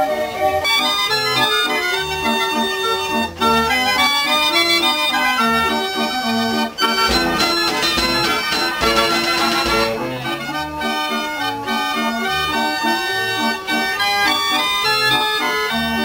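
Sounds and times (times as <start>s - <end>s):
mechanical fair organ playing: 0.0s - 16.0s.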